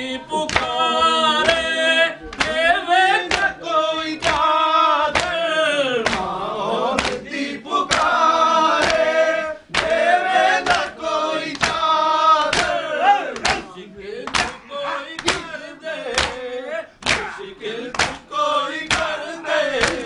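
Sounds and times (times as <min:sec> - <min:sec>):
lead reciter singing: 0:00.0 - 0:20.0
men chanting a lament: 0:00.0 - 0:20.0.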